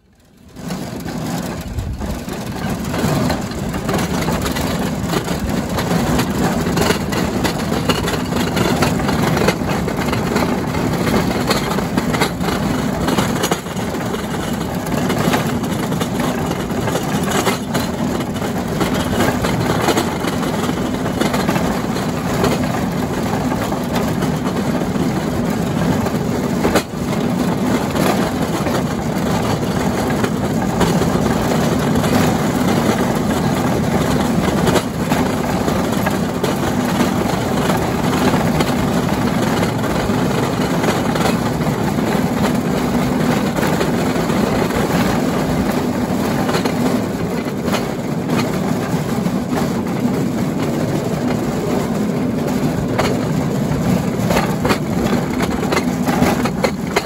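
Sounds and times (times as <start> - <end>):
clicks and knocks from wheels: 0.0 - 57.0
rail vehicle engine running: 0.0 - 57.0.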